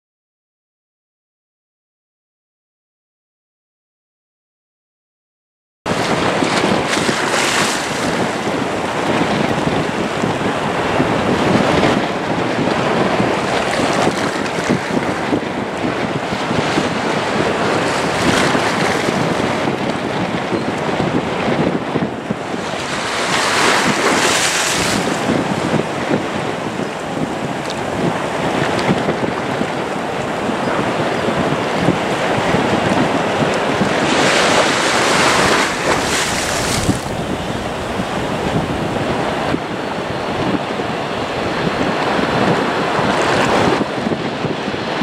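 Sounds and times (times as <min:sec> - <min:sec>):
gusty wind on microphone: 0:05.9 - 0:45.0.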